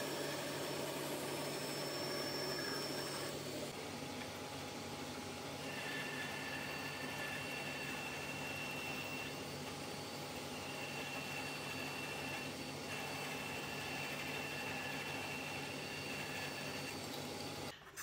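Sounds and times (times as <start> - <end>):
band saw humming: 0.0 - 17.7.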